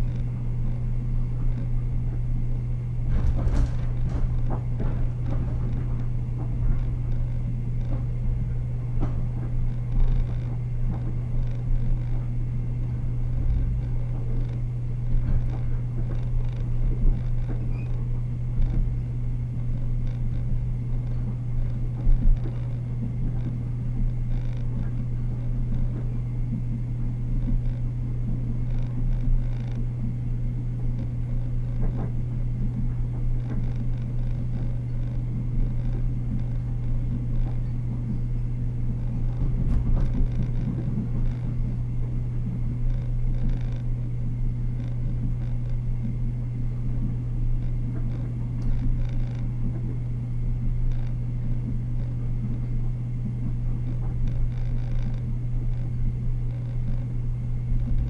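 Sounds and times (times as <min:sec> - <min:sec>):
wheel on rail rumble: 0:00.0 - 0:30.2, 0:30.8 - 0:58.0
steady low hum: 0:00.0 - 0:58.0.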